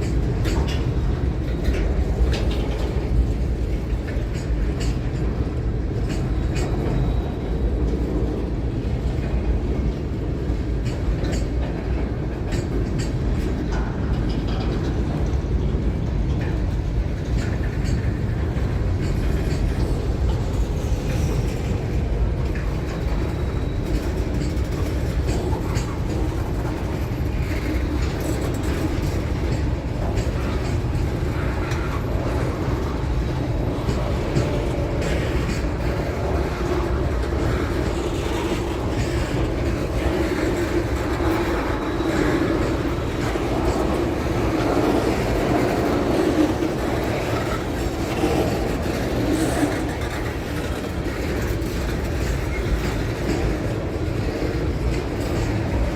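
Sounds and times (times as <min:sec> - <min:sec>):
train rumbling past: 0:00.0 - 0:55.9
wheels clattering on rails: 0:00.0 - 0:55.9.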